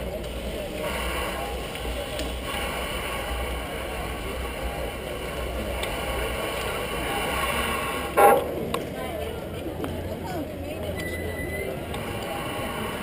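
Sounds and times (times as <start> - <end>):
street hum: 0.0 - 13.0.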